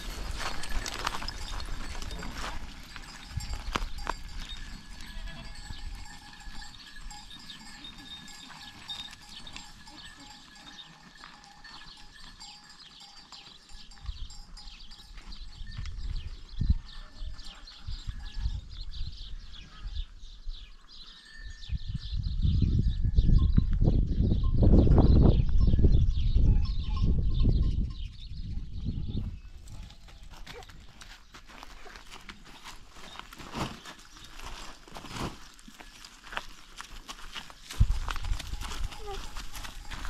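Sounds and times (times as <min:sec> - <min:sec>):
animal bells clanking and jingling: 0:00.0 - 0:40.0.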